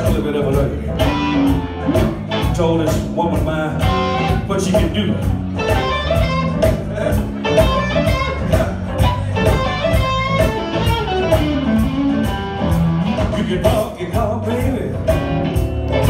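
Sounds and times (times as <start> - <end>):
blues band instrumental: 0.0 - 16.0
electric guitar lead: 0.0 - 16.0.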